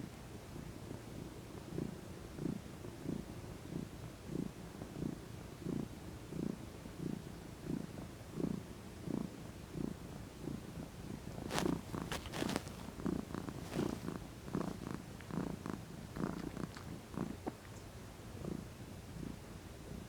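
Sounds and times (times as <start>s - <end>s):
cat purring: 1.6s - 20.0s.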